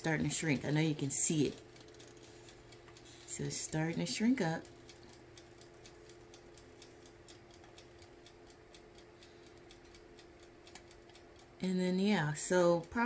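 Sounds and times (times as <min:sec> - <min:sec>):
faint rapid ticking: 0:00.0 - 0:13.0
oven low hum: 0:00.0 - 0:13.0.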